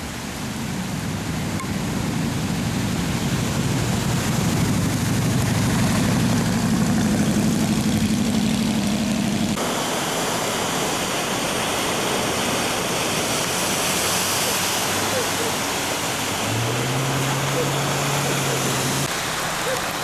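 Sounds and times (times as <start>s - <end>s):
tyres splashing through water: 0.0s - 20.0s
car engine hum: 0.1s - 19.9s.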